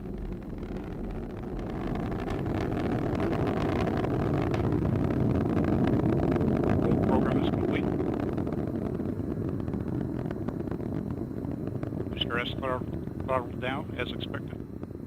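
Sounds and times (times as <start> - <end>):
rocket engine rumble with crackle: 0.0 - 15.0.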